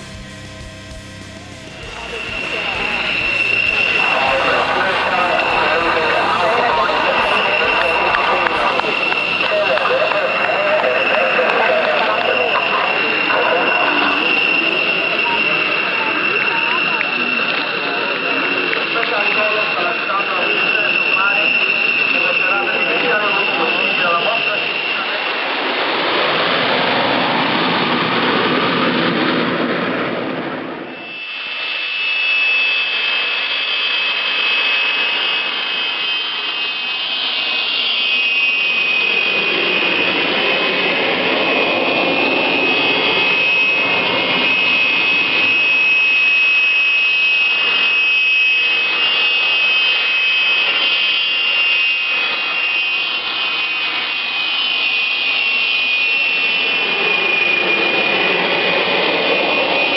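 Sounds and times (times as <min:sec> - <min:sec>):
jet engine whine on ground: 0:00.0 - 0:59.9
jets passing overhead: 0:00.0 - 0:59.9.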